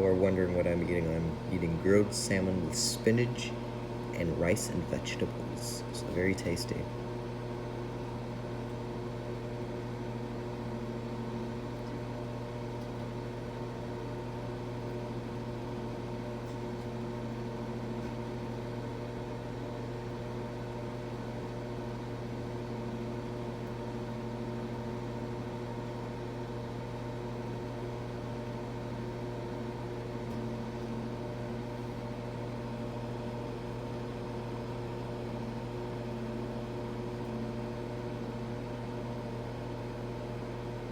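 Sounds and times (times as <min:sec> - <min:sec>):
microwave oven humming: 0:00.0 - 0:40.9.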